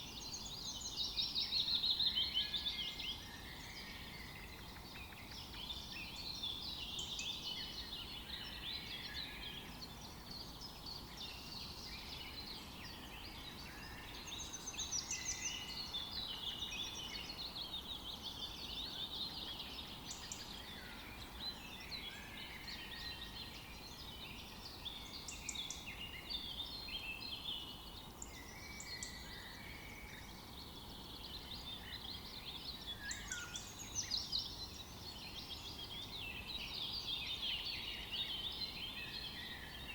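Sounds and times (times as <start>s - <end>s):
birds singing and chirping: 0.0s - 39.9s
low background hiss: 0.0s - 39.9s.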